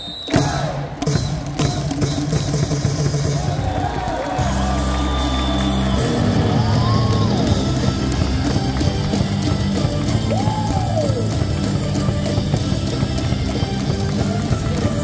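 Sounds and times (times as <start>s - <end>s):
crowd cheering: 0.0s - 15.0s
cheering music over speakers: 1.8s - 15.0s.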